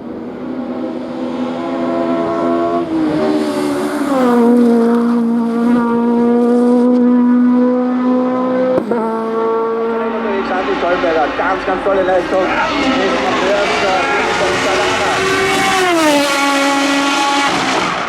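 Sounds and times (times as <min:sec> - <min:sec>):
race car engine at high revs: 0:00.0 - 0:18.0.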